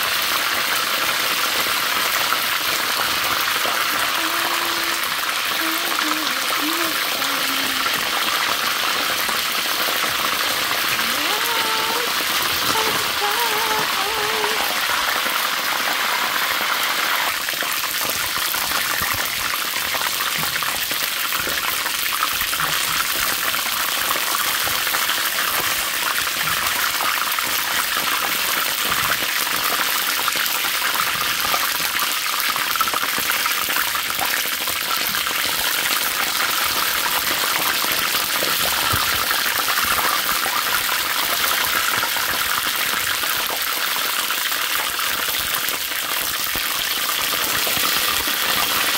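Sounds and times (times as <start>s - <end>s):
chicken wings sizzling in hot oil: 0.0s - 48.9s.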